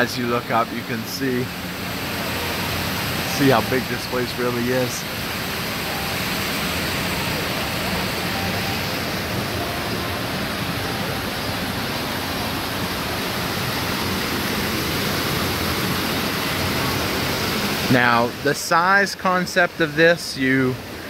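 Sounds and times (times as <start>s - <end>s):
waterfall splashing into pool: 0.0s - 20.8s.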